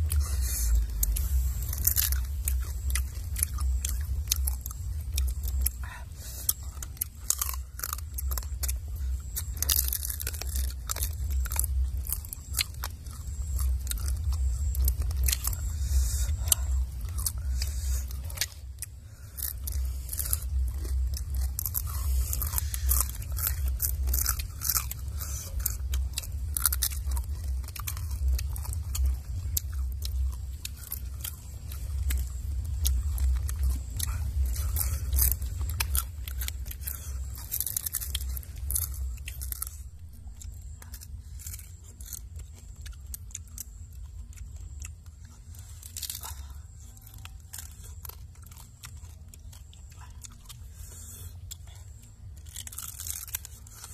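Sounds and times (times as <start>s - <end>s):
crunching and chewing crab shells: 0.0s - 53.9s
low rumble: 0.0s - 53.9s.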